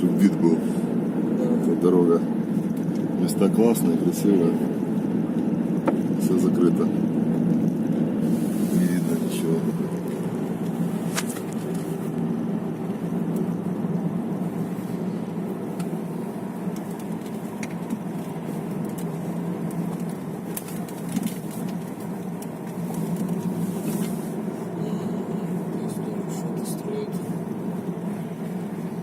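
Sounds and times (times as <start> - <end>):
car engine and tyre drone: 0.0 - 29.0.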